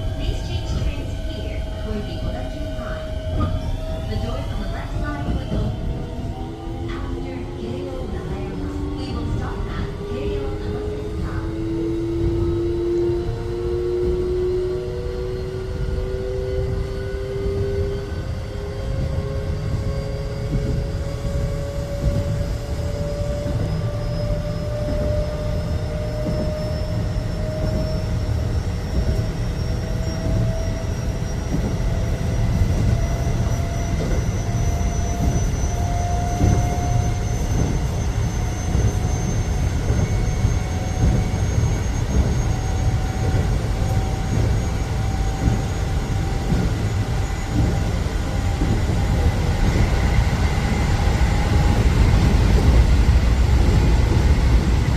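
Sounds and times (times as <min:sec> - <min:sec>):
train wheels rumbling on rails: 0:00.0 - 0:54.9
train motor whine rising: 0:10.8 - 0:54.9.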